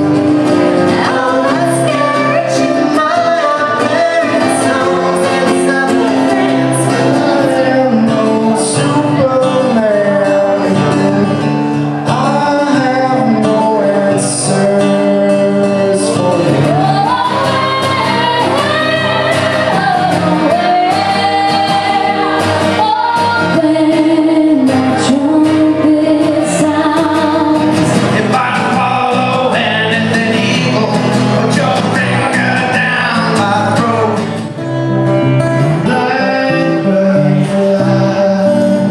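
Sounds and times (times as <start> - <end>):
person singing: 0.0 - 38.9.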